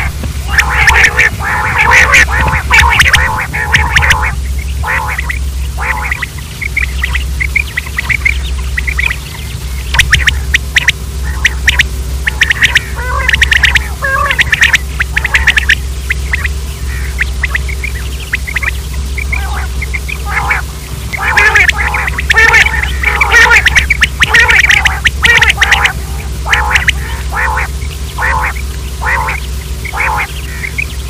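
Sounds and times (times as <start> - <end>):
quail calling: 0.0 - 31.0
steady low hum: 0.0 - 31.0.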